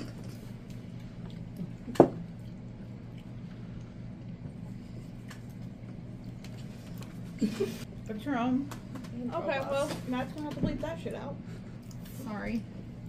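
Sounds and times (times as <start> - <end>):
faint eating and handling: 0.0 - 7.9, 8.7 - 13.0
steady low hum: 0.0 - 13.0.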